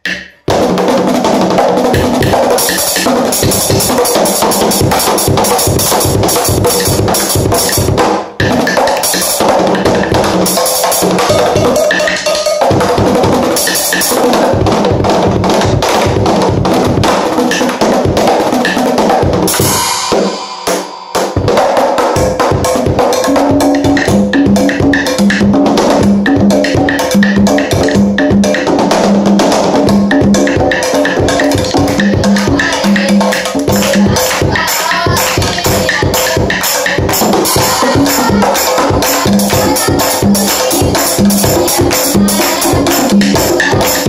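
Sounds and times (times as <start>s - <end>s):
drum and percussion ensemble: 0.0s - 44.0s.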